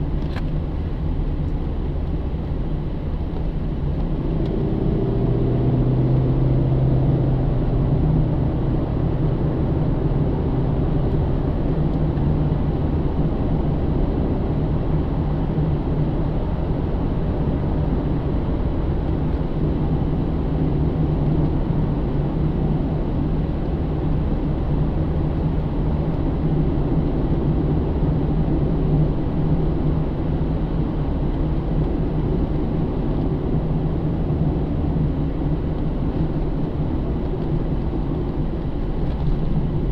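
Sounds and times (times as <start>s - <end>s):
car engine droning: 0.0s - 39.9s
low road rumble: 0.0s - 39.9s.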